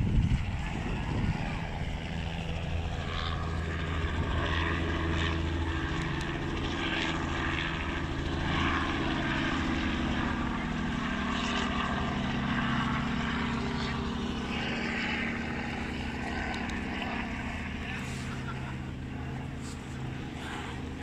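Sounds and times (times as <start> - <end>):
steady engine drone: 0.0 - 21.0.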